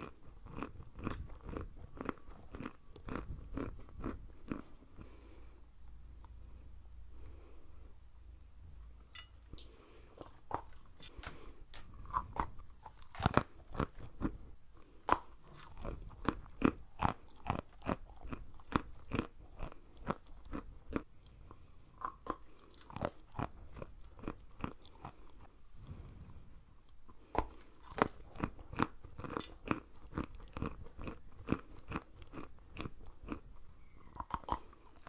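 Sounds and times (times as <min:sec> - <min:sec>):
chewing chalk crunches: 0:00.0 - 0:06.4, 0:09.6 - 0:35.0.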